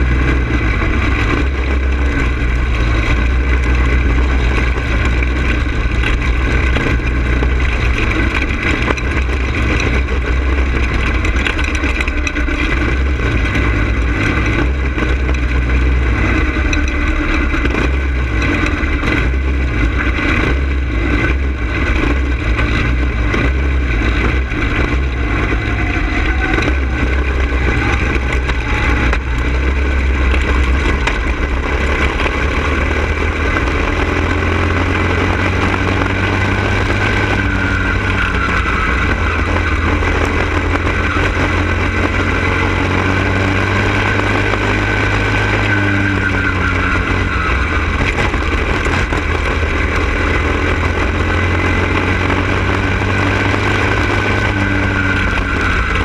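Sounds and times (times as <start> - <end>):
go-kart engine running hard: 0.0 - 56.0
wind rumble on microphone: 0.0 - 56.0.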